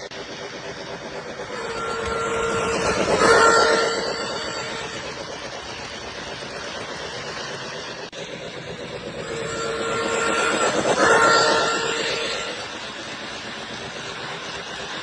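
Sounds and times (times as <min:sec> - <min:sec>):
humming motor whine: 0:00.0 - 0:15.0
model train rumbling on track: 0:00.0 - 0:15.0.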